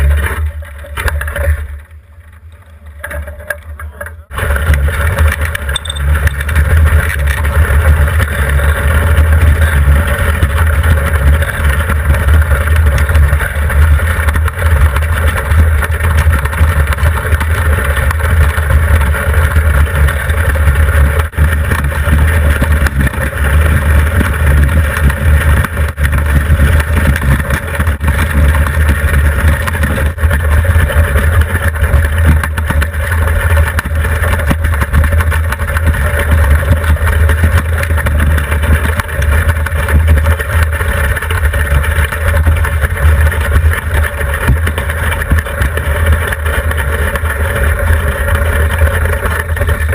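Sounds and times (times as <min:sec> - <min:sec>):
iceboat runners rumbling on ice: 0:00.0 - 0:49.9.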